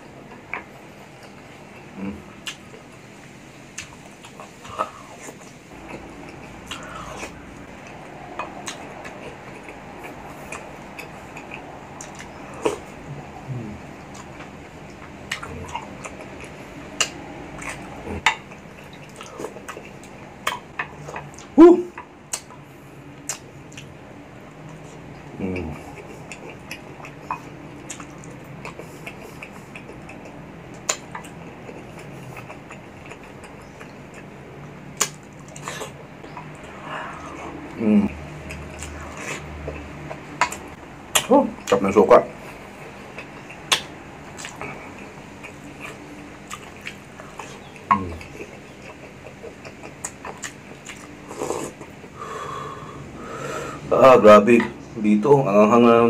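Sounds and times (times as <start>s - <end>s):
wet chewing: 3.7s - 52.2s.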